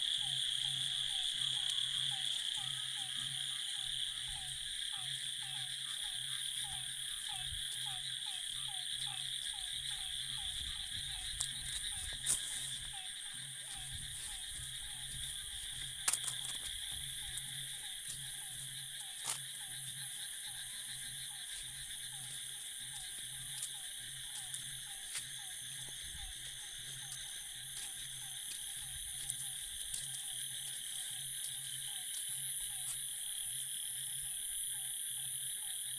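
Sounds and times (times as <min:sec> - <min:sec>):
frogs calling: 0:00.0 - 0:35.9
high insect drone: 0:00.0 - 0:35.9.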